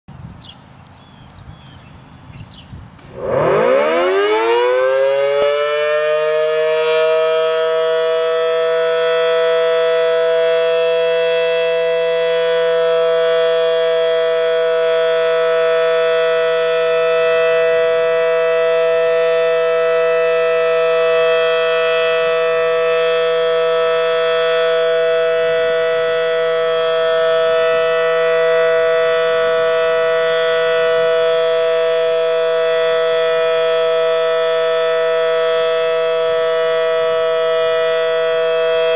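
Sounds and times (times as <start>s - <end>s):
steady two-note warning siren: 3.0s - 38.9s.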